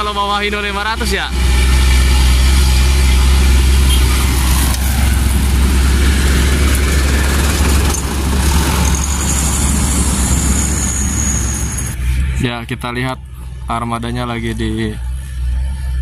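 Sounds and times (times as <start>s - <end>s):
diesel truck engine droning: 0.0s - 16.0s
road and traffic noise: 0.0s - 16.0s.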